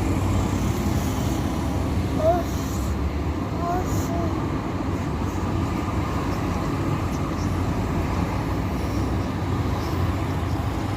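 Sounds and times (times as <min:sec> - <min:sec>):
rumble of road traffic: 0:00.0 - 0:10.9.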